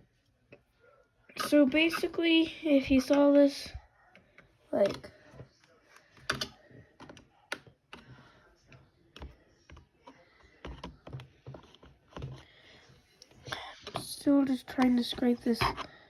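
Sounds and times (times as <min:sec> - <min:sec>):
keyboard plastic clicks and scraping: 0:01.3 - 0:03.5, 0:04.1 - 0:16.0.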